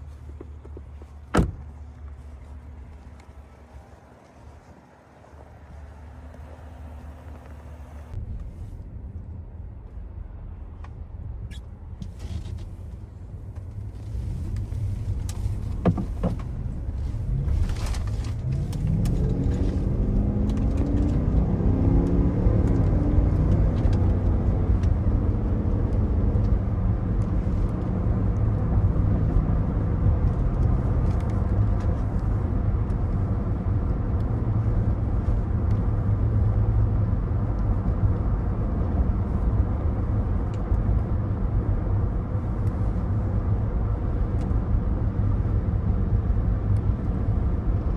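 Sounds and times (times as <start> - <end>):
low road rumble: 0.0 - 47.9
car engine accelerating: 2.0 - 47.9.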